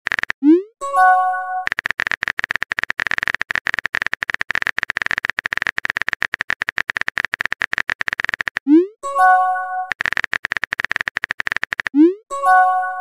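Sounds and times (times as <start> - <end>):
keyboard typing clicks: 0.0 - 0.7, 1.6 - 8.9, 9.8 - 13.0.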